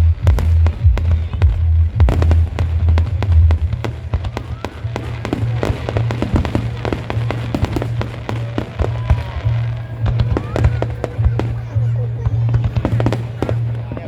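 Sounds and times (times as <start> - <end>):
fireworks bursting: 0.0 - 14.0
loud music with heavy bass: 0.0 - 14.0.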